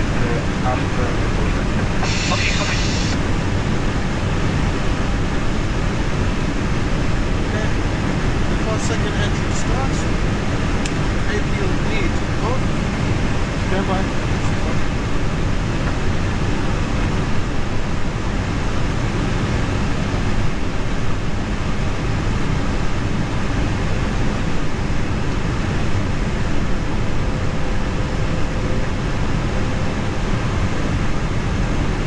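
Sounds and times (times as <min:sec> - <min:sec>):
air-conditioning rushing noise: 0:00.0 - 0:32.0
jet engine running: 0:00.0 - 0:32.0.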